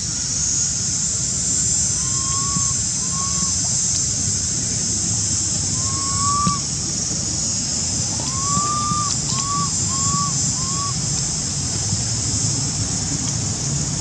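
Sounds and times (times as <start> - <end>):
high-pitched insect drone: 0.0 - 13.8.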